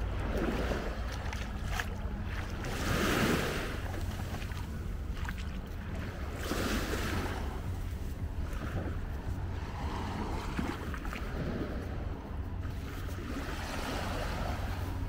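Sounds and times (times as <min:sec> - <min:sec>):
small waves washing on sand: 0:00.0 - 0:15.0
wind rumble on microphone: 0:00.0 - 0:15.0.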